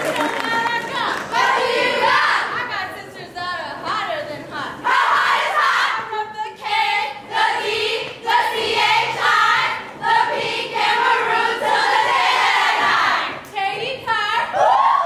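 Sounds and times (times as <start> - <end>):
young women singing in unison: 0.9 - 15.0.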